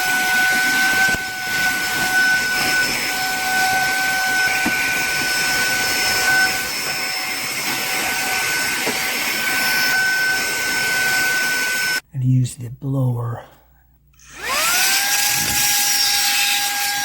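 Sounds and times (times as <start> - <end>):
handheld vacuum cleaner running: 0.0 - 12.0, 14.2 - 17.0.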